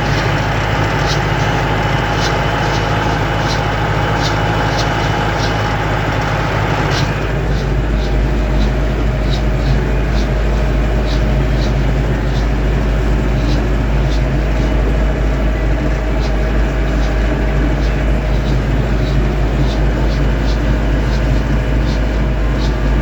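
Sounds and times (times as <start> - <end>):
light high ticking: 0.0 - 23.0
tractor engine drone: 0.0 - 23.0.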